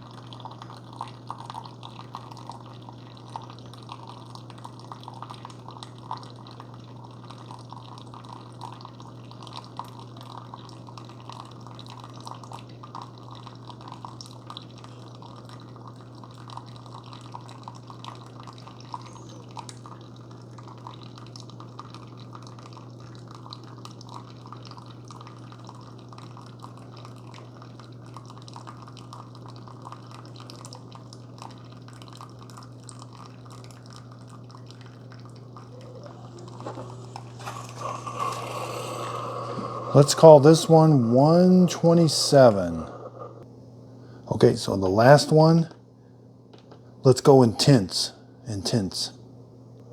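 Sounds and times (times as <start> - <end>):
coffee dripping into cup: 0.0 - 43.4
coffee maker pump hum: 0.0 - 49.1.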